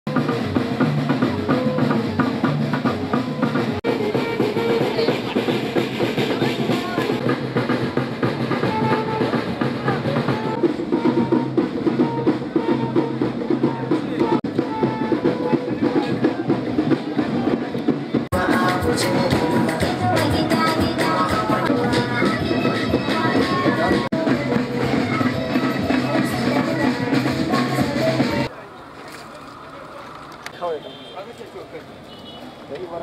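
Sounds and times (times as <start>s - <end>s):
background music with drums: 0.1s - 28.5s.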